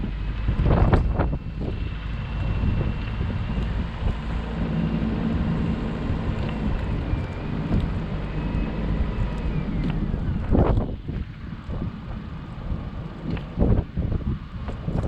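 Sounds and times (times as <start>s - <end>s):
car engine and road rumble: 0.0s - 15.0s
wind noise: 0.0s - 15.0s.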